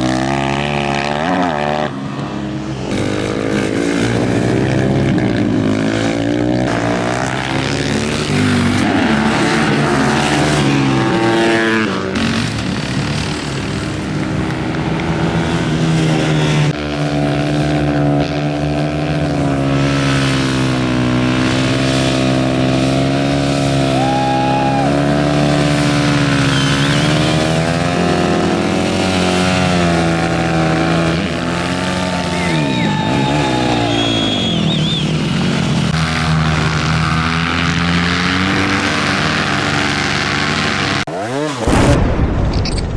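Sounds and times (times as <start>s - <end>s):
motorcycle engines racing: 0.0s - 42.8s.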